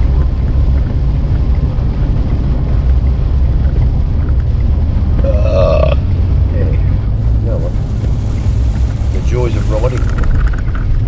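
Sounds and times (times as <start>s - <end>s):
heavy rain: 0.0s - 11.0s
truck cab road and engine rumble: 0.0s - 11.0s.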